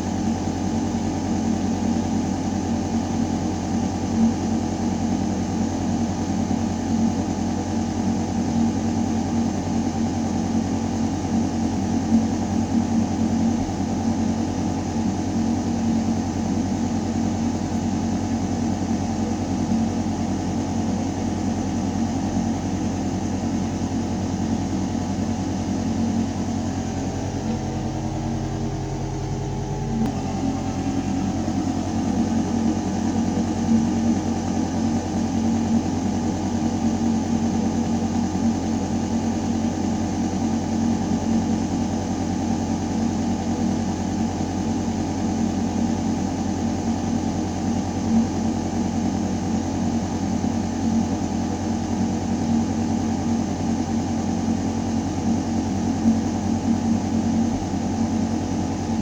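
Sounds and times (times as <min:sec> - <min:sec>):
ventilation mechanical drone: 0:00.0 - 0:59.0.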